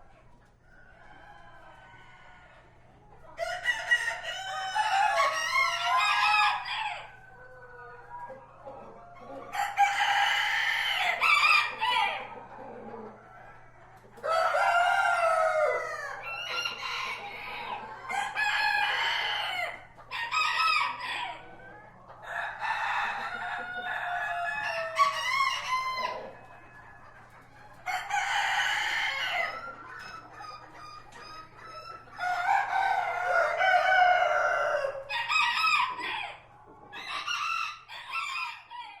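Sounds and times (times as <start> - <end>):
hens clucking: 0.0 - 39.0
roosters crowing: 3.4 - 7.8, 9.2 - 13.2, 14.2 - 27.0, 27.8 - 39.0.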